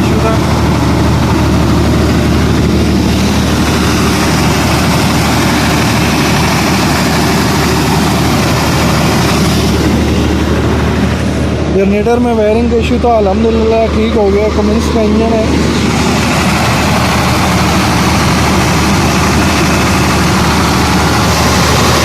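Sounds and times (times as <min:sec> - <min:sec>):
diesel generator engine running: 0:00.0 - 0:22.0.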